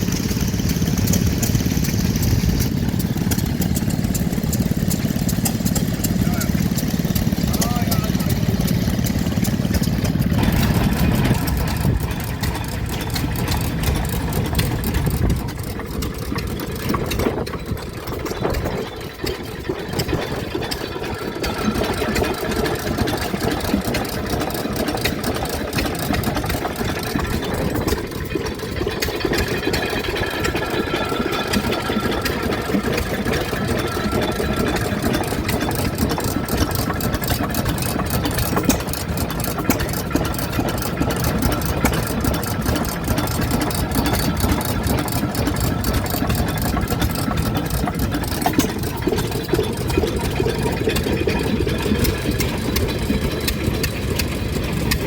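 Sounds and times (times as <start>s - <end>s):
stationary engines running: 0.0s - 55.0s.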